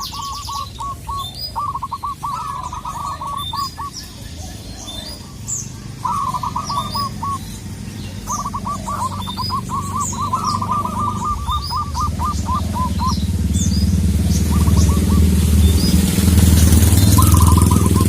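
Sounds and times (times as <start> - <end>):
dove cooing: 0.0 - 18.0
low engine drone: 0.0 - 18.0
small birds chirping: 0.0 - 18.0.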